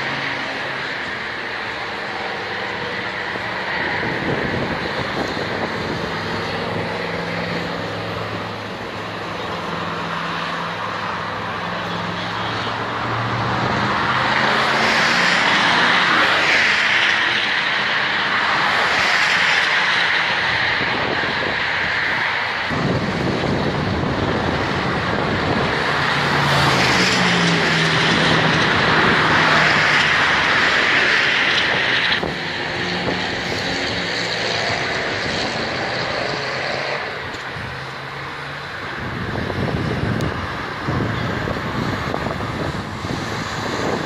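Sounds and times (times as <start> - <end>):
distant racing car engines: 0.0 - 44.0
steady rush of noise: 0.0 - 44.0.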